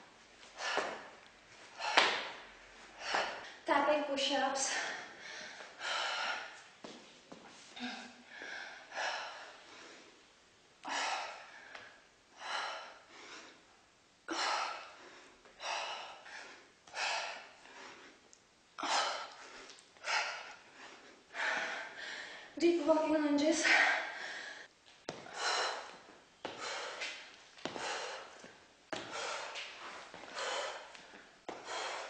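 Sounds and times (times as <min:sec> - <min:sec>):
woman breathing hard: 0:00.4 - 0:03.6, 0:04.6 - 0:06.9, 0:07.7 - 0:22.6, 0:23.6 - 0:32.0.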